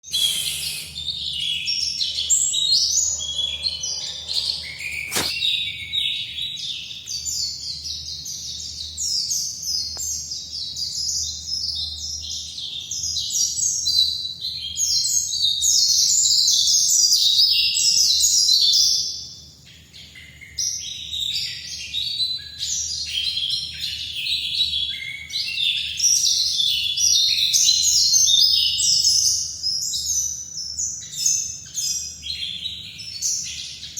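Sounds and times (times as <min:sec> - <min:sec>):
bird twittering song: 0:00.0 - 0:33.9.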